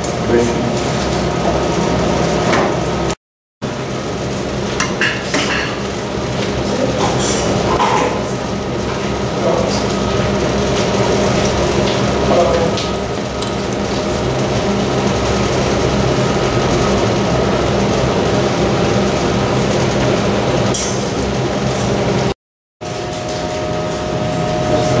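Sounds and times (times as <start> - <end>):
machinery humming: 0.0 - 25.0.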